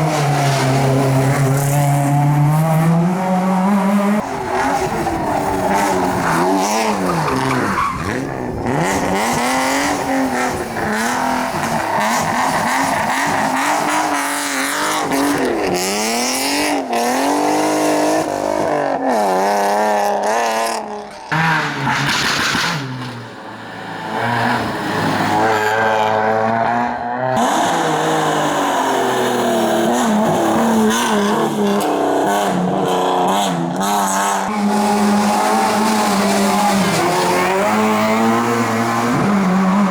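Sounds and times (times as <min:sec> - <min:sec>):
rally car engines revving hard: 0:00.0 - 0:39.9.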